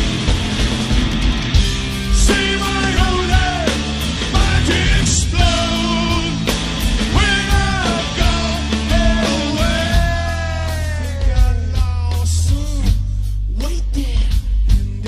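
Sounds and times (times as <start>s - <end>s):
live rock band playing: 0.0s - 15.0s
man singing into a microphone: 2.1s - 6.5s, 7.1s - 15.0s.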